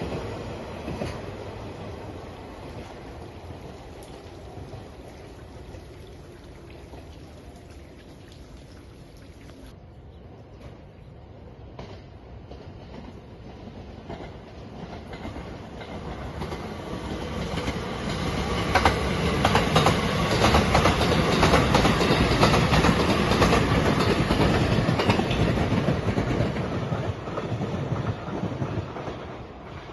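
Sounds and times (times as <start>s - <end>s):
wheels clacking over rail joints: 0.0s - 9.7s, 11.7s - 29.9s
electric train passing: 0.0s - 29.9s.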